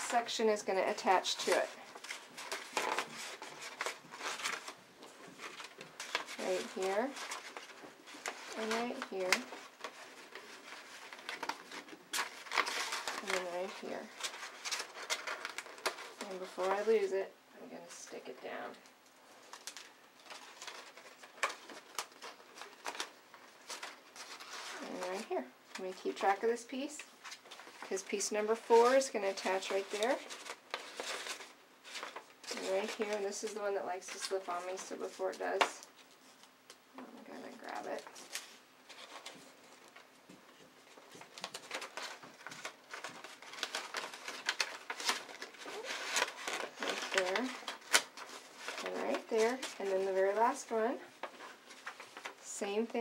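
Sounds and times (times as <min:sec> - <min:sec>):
stiff paper rustling and crinkling: 0:00.0 - 0:17.2, 0:17.8 - 0:53.0.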